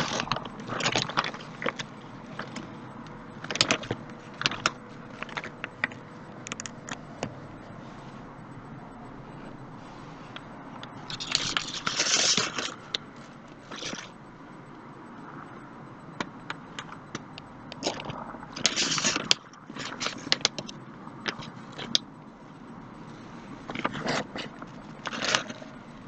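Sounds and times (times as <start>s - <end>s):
scraping and crackling handling noise: 0.0s - 14.6s, 15.3s - 26.0s.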